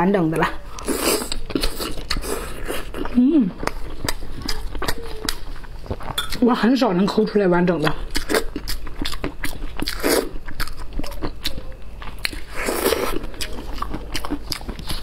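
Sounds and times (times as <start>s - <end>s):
biting and wet chewing: 0.7s - 15.0s.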